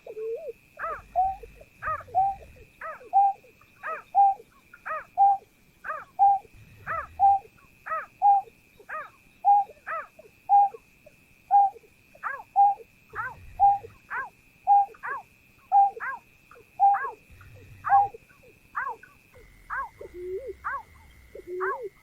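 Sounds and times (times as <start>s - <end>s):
snipe bird calling: 0.0s - 10.9s, 11.5s - 22.0s
faint steady high tone: 0.0s - 22.0s.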